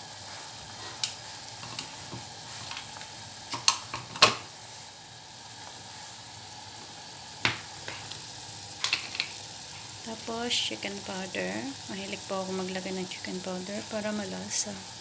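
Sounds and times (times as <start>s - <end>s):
pot of broth boiling: 0.0s - 15.0s.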